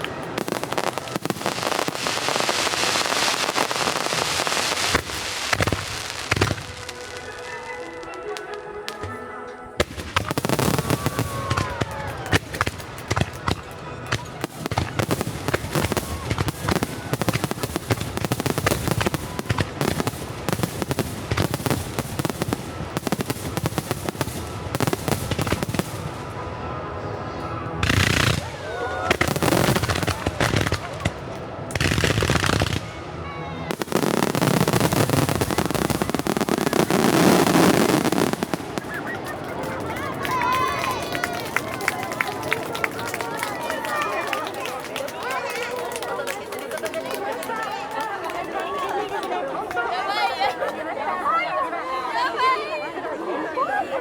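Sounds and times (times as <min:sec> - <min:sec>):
fireworks crackling: 0:00.0 - 0:50.7.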